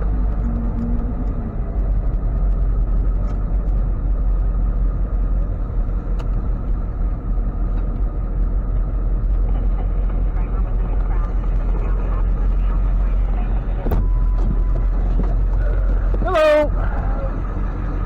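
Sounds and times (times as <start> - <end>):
road noise: 0.0 - 18.0
truck engine rumble: 0.0 - 18.0.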